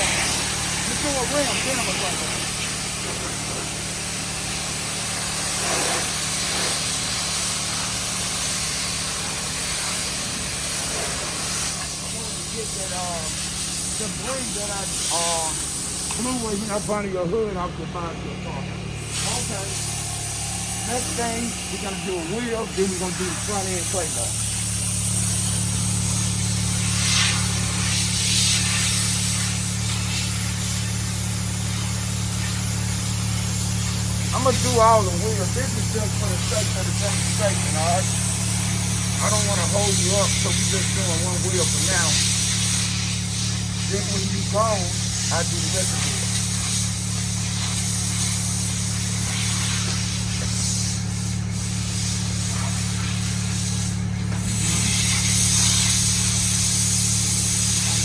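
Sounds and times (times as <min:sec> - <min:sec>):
car engine idling: 0:00.0 - 0:58.0
loud even hiss: 0:00.0 - 0:58.0
steady low hum: 0:00.0 - 0:58.0.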